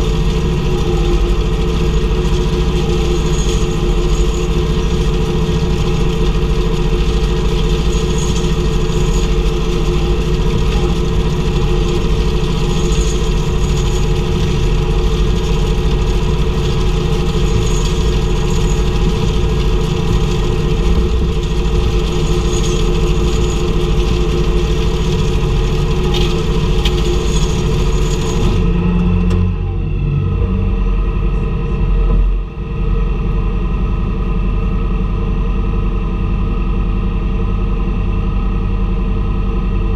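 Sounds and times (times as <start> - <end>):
round baler working: 0.0 - 39.9
tractor engine running under load: 0.0 - 39.9.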